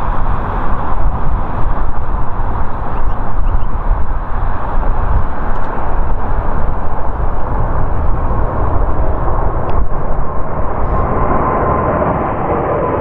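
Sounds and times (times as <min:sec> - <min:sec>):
faint steady whine: 0:00.0 - 0:13.0
jet engines rumbling at takeoff: 0:00.0 - 0:13.0.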